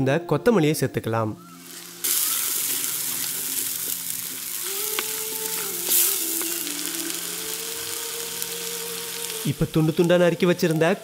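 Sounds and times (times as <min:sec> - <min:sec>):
sauce sizzling and bubbling: 0:01.4 - 0:11.0.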